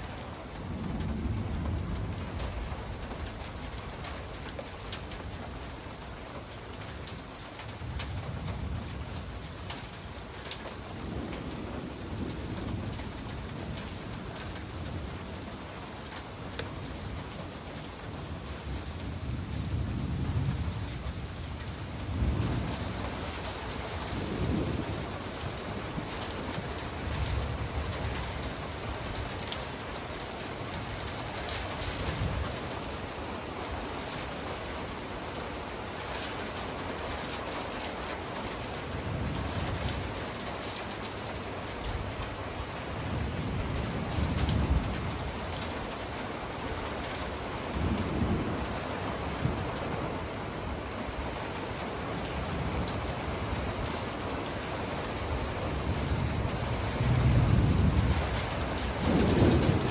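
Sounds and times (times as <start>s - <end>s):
steady rain hissing: 0.0s - 59.9s
thunder rumbling: 0.0s - 59.9s.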